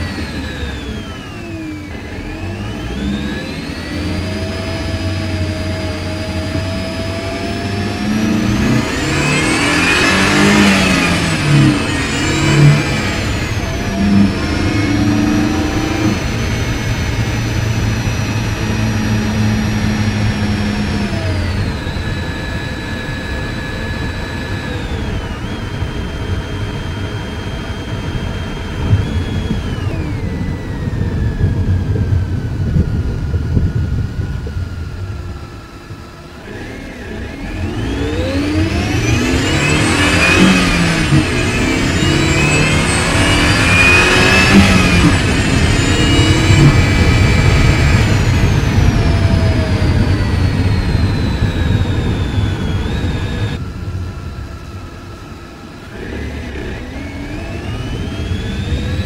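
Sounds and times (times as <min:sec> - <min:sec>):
engine accelerating with whine: 0:00.0 - 0:59.0.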